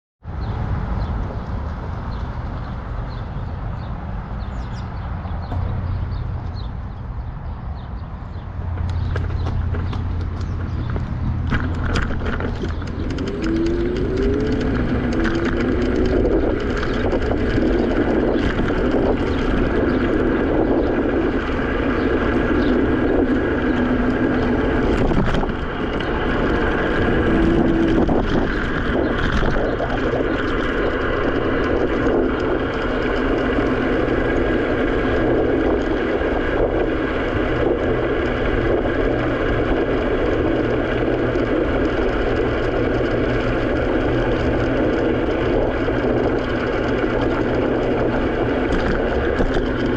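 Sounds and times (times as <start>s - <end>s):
electric scooter running: 0.3s - 49.9s
wind on microphone: 0.3s - 49.9s.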